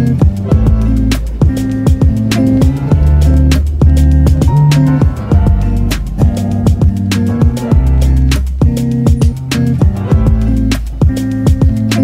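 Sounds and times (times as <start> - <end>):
background music with bass beat: 0.0 - 12.0
plucked guitar-like notes: 0.0 - 12.0.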